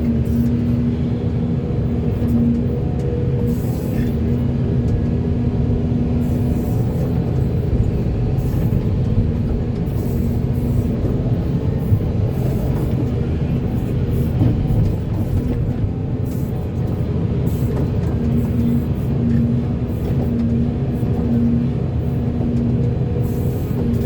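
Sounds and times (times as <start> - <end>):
excavator diesel engine rumbling: 0.0 - 24.0.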